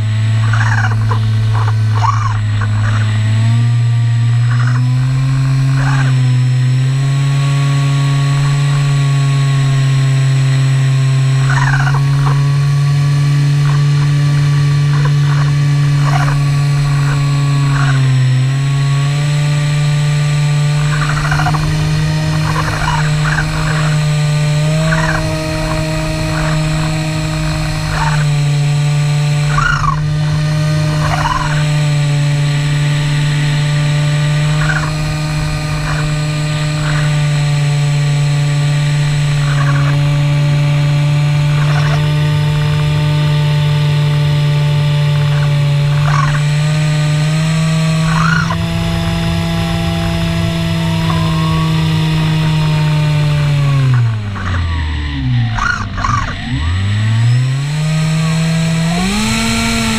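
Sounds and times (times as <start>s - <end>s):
electric motor and propeller drone: 0.0s - 59.9s.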